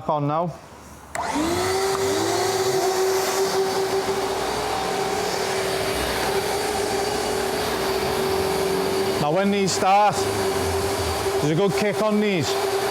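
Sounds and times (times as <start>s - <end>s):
air rushing through hose: 0.7s - 12.9s
dust extraction vacuum whining: 1.1s - 12.9s.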